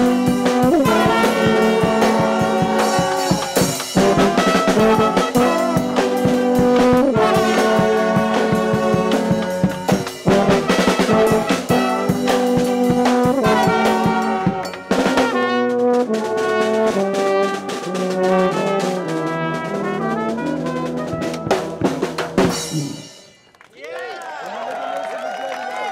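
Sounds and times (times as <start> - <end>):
brass band playing: 0.0 - 23.4
drum kit: 0.0 - 23.4.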